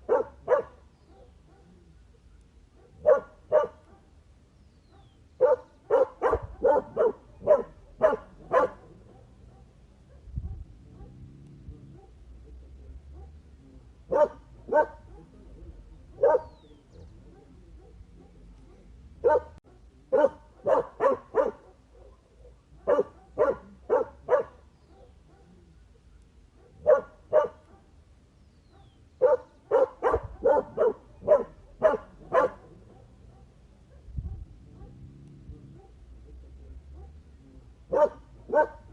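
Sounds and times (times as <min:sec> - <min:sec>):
dog barking: 0:00.0 - 0:04.2, 0:04.9 - 0:12.3, 0:13.0 - 0:13.5, 0:14.1 - 0:28.0, 0:28.7 - 0:36.2, 0:36.8 - 0:37.3, 0:37.9 - 0:38.9.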